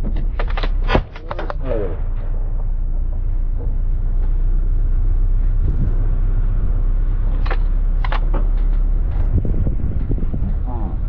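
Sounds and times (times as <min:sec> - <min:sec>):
vehicle engine and tyres rumbling: 0:00.0 - 0:11.0.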